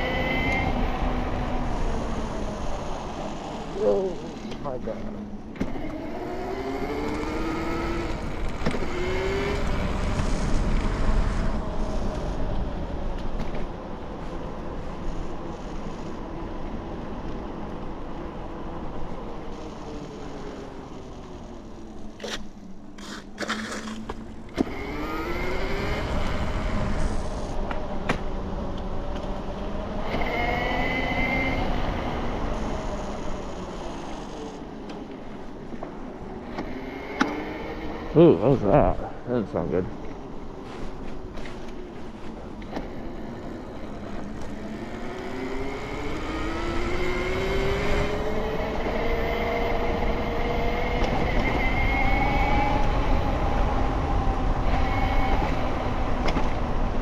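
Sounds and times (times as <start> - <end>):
high electric motor whine: 0.0 - 22.4, 23.5 - 57.0
rushing wind: 0.0 - 57.0.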